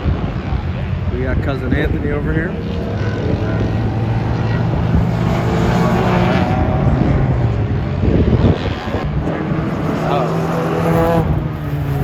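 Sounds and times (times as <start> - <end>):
car engine accelerating: 0.0 - 12.0
race car engines droning: 0.0 - 12.0.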